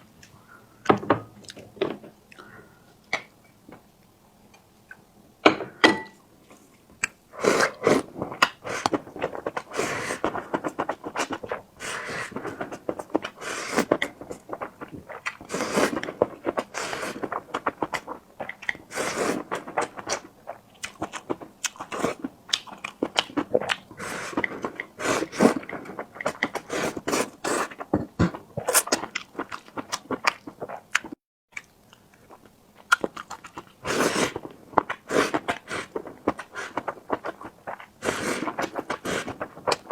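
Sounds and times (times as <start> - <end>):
chewing: 0.2 - 2.5, 6.5 - 39.9
mouth smacks and crackles: 7.0 - 39.9.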